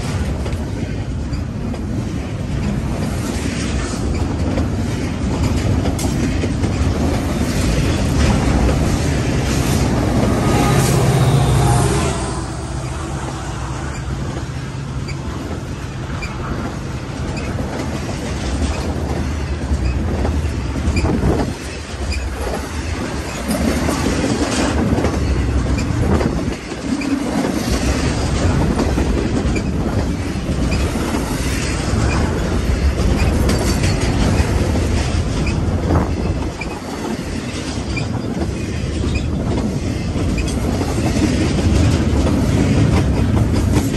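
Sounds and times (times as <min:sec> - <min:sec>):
diesel locomotive passing: 0:00.0 - 0:43.9
train cars rumbling on rails: 0:00.0 - 0:43.9
train wheels knocking: 0:00.0 - 0:43.9.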